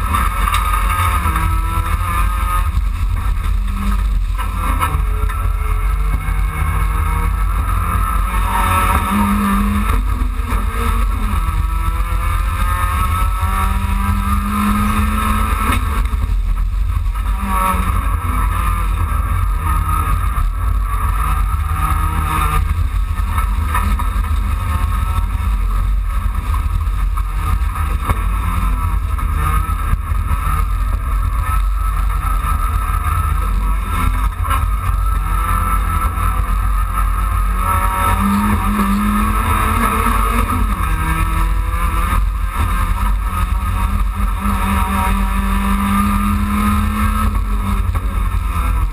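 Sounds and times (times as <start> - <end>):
low rumble of road vibration: 0.0 - 48.9
race car engine through gears: 0.0 - 48.9.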